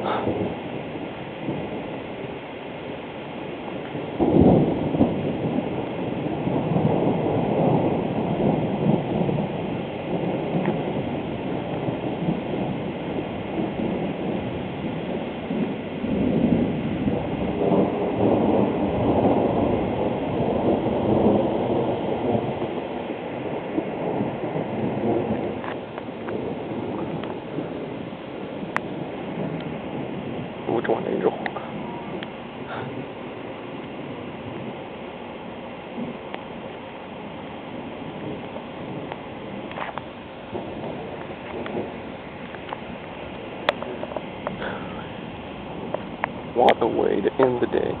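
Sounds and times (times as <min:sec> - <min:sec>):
thunder clap and rumble: 0:00.0 - 0:48.0.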